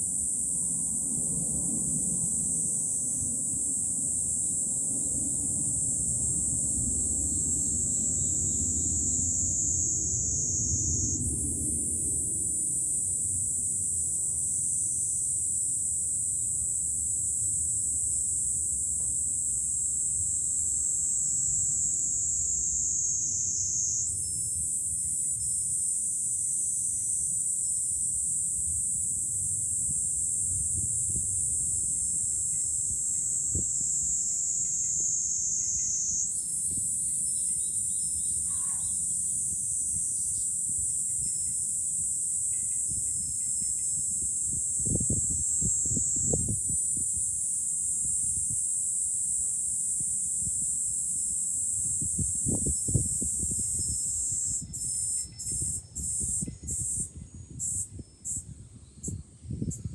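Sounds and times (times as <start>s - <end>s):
low wind rumble: 0.0s - 24.9s, 28.1s - 49.0s, 49.9s - 59.9s
cicadas droning: 0.0s - 59.9s.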